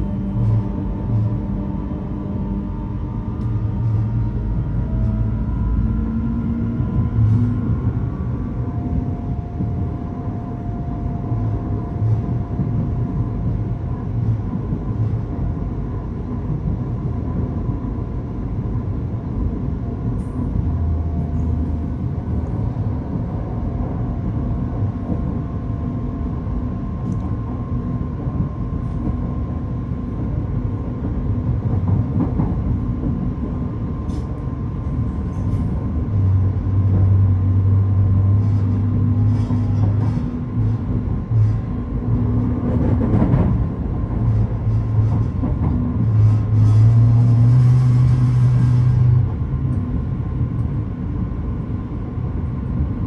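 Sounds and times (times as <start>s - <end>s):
electric train rumble: 0.0s - 53.0s
faint train whine: 0.0s - 53.0s.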